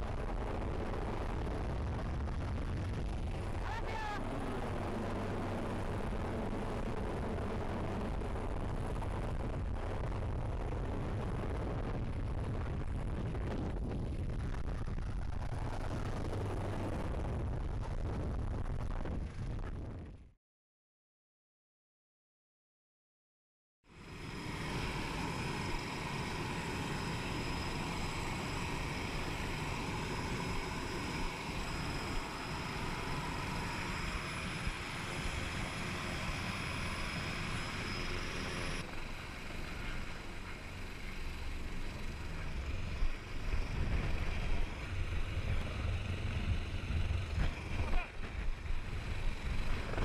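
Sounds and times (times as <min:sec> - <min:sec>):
helicopter turbine and rotor noise: 0:00.0 - 0:18.1, 0:23.9 - 0:50.0.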